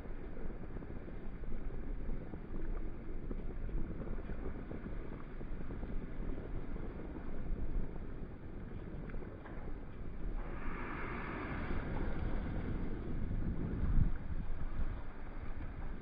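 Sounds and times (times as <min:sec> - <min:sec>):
water rushing along hull: 0:00.0 - 0:16.0
wind buffeting microphone: 0:00.0 - 0:16.0.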